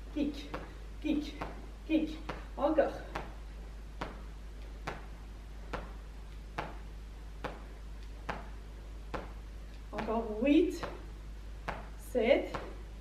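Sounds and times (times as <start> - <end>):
sneakers landing on hard floor: 0.4 - 12.8.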